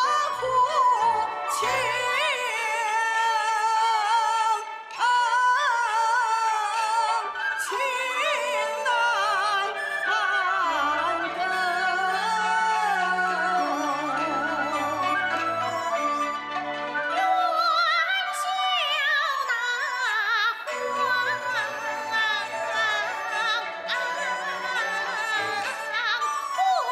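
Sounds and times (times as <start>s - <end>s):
instrumental accompaniment: 0.0s - 26.9s
opera singing with vibrato: 0.0s - 26.9s.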